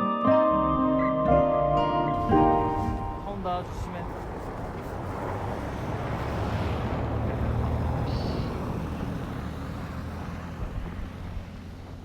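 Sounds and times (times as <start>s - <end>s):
vehicle passing rumble: 2.1s - 12.0s.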